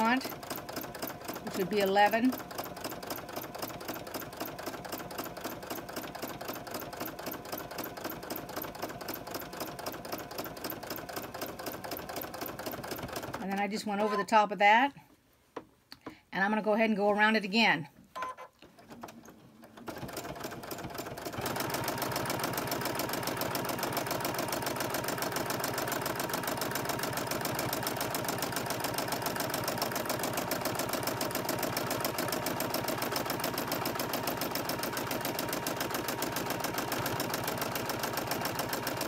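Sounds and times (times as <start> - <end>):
sewing machine stitching: 0.0 - 14.4, 18.1 - 39.0.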